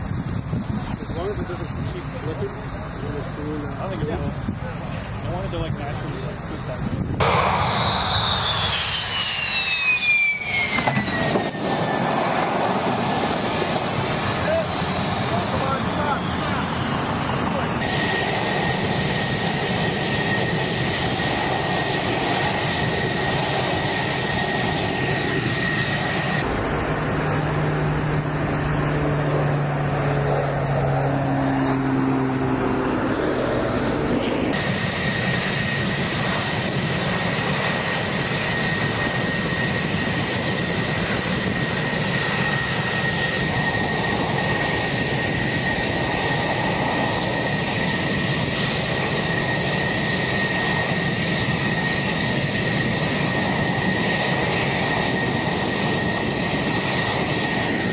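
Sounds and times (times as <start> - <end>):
jet engine idling with whine: 0.0 - 57.9.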